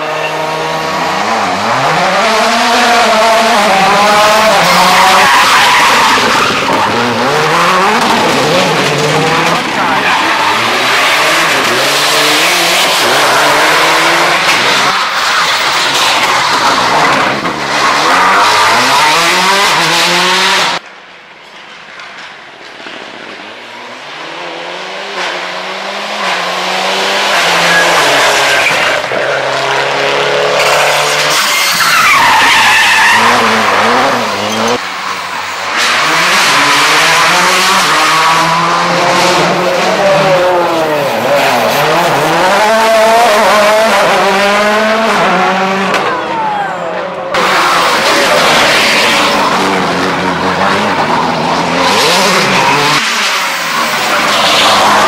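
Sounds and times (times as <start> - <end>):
rally car engines revving: 0.0 - 20.8, 22.2 - 55.0
tyres skidding: 0.0 - 55.0.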